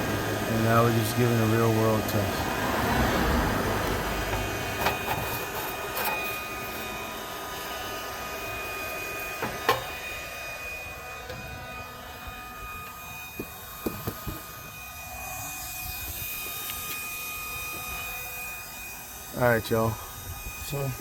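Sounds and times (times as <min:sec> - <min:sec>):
induction heater fan hiss and whine: 0:00.0 - 0:21.0.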